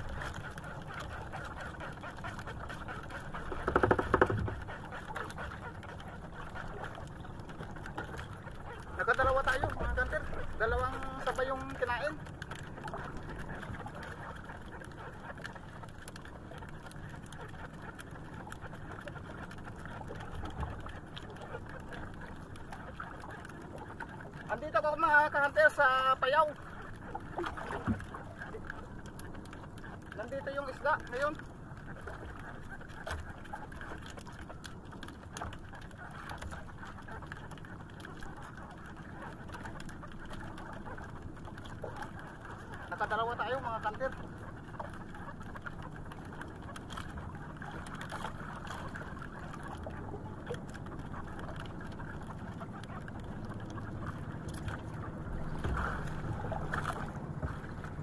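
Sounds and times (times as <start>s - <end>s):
sea noise: 0.0s - 58.0s
water lapping against boat hull: 0.0s - 58.0s
wind: 0.0s - 58.0s.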